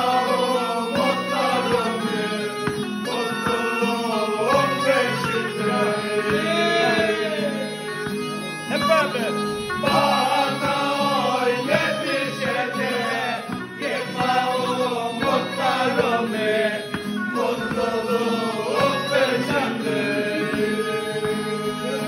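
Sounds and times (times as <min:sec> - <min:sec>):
men singing together: 0:00.0 - 0:07.9, 0:09.8 - 0:22.0
bagpipe piping: 0:00.0 - 0:22.0.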